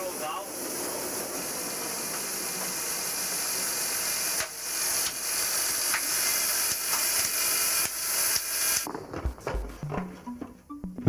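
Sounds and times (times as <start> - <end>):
rushing hiss of thrown snow: 0.0 - 8.9.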